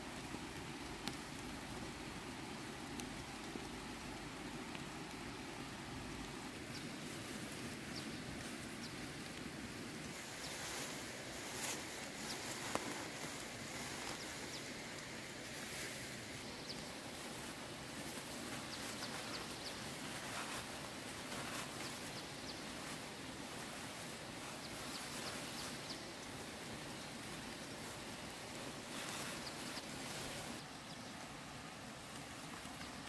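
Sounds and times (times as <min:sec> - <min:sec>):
steady outdoor hiss: 0:00.0 - 0:33.0
leafy stems rustling: 0:00.1 - 0:33.0.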